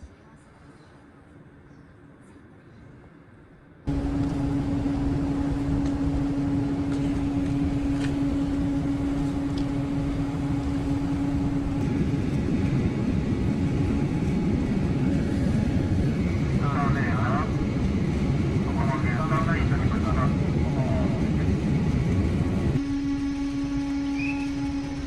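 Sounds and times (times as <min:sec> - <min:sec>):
low held hum: 0:03.9 - 0:25.0
vehicle rumble: 0:03.9 - 0:25.0.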